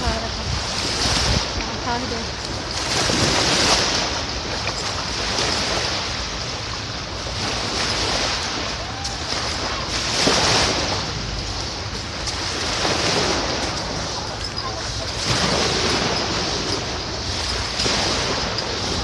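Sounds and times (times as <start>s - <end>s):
surf washing onto beach: 0.0s - 19.0s
wind on microphone: 0.0s - 19.0s.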